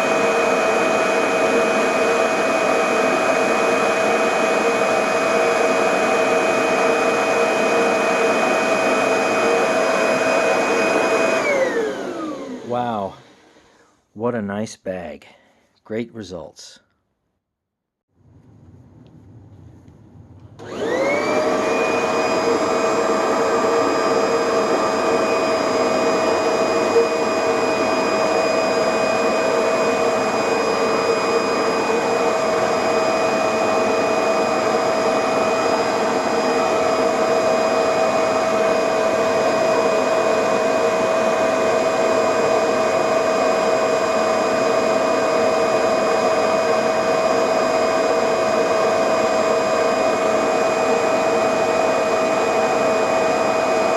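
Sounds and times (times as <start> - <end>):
vacuum cleaner motor whining: 0.0 - 13.7, 18.2 - 53.9.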